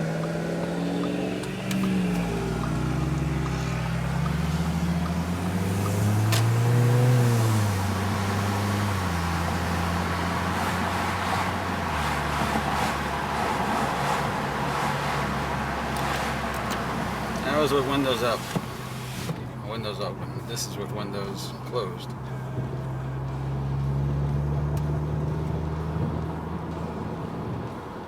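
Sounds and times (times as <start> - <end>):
car engine droning: 0.0 - 28.0.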